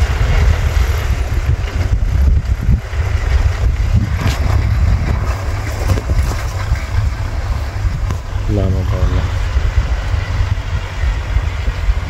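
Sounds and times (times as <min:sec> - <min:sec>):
tractor engine under load: 0:00.0 - 0:12.0
wind buffeting microphone: 0:00.0 - 0:12.0.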